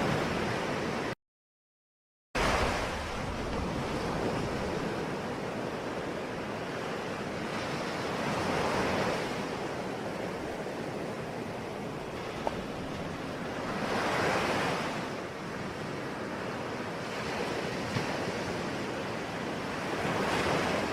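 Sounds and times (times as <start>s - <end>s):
waves washing onto shore: 2.4s - 20.9s.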